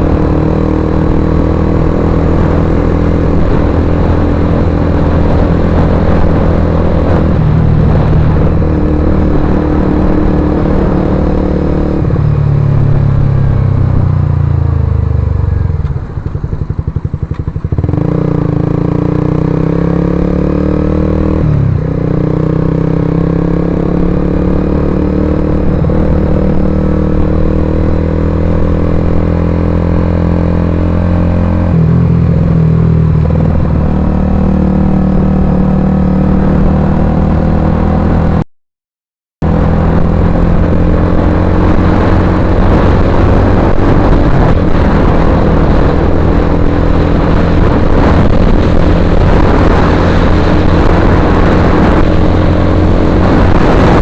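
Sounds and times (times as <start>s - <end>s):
motorcycle engine running: 0.0s - 38.4s, 39.4s - 54.0s.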